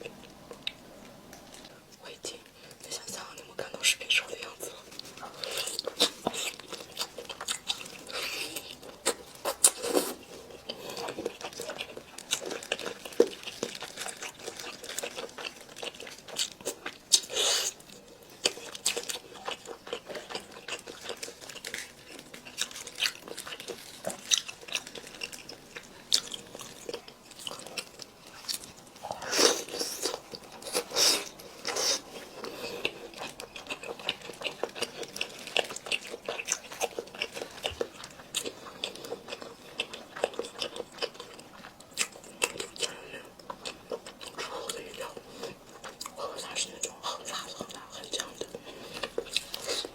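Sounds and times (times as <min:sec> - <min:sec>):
person chewing food: 0:04.4 - 0:49.9.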